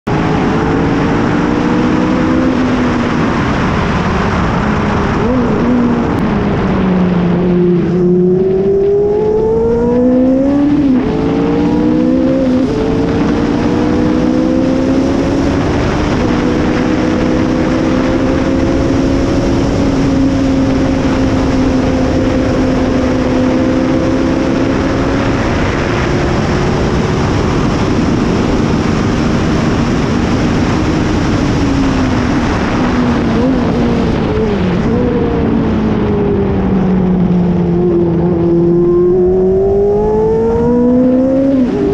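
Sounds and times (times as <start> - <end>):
racing car engine at speed: 0.0 - 41.9.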